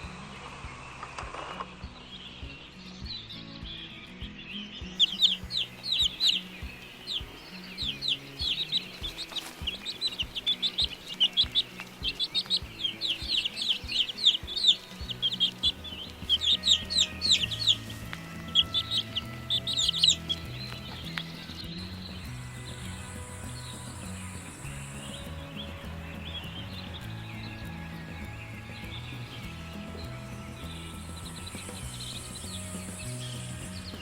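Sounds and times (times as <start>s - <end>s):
birds chirping: 0.0s - 34.0s
soft background music: 0.0s - 34.0s.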